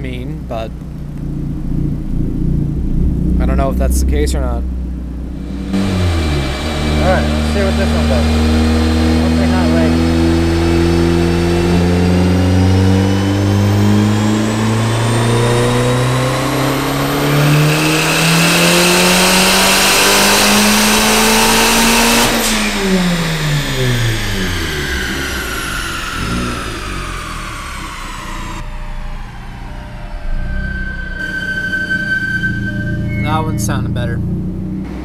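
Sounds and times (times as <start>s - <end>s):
car engine revving at full throttle: 0.0s - 35.0s
dyno rollers winding down: 0.0s - 35.0s.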